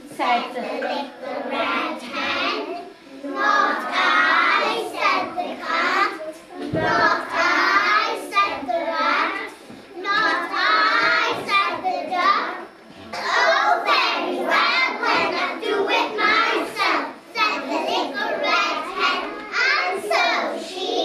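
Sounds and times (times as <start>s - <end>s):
children speaking in unison: 0.4s - 21.0s.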